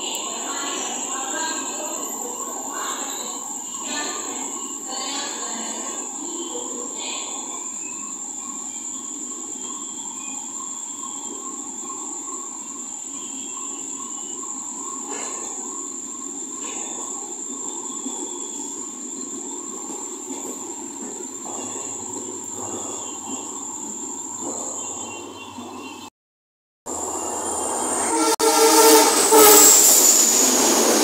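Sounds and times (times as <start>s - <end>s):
train wheels rumbling on rail: 0.1s - 25.8s, 26.9s - 31.0s.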